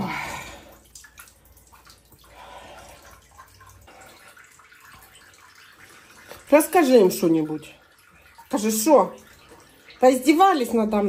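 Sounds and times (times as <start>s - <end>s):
water dripping in bathtub: 0.0s - 11.0s.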